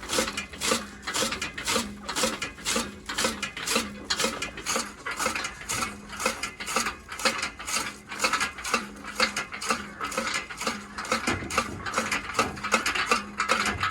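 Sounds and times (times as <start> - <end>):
machine rhythmic metallic clatter: 0.0 - 13.9.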